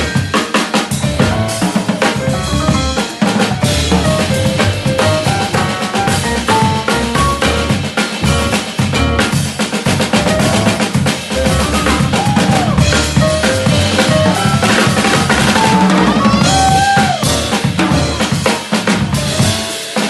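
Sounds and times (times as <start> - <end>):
piano notes: 0.0 - 19.9
bass: 0.0 - 20.0
drum kit playing: 0.0 - 20.0.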